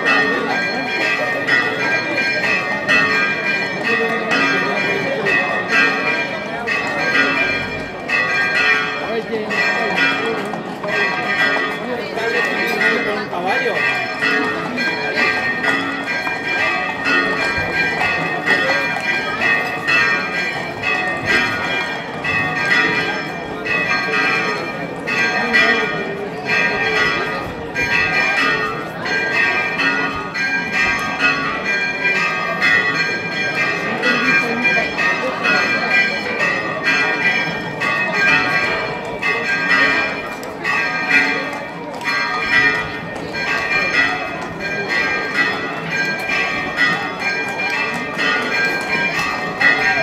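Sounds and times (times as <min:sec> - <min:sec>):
church bells ringing: 0:00.0 - 0:50.0
murmur of voices: 0:00.0 - 0:50.0.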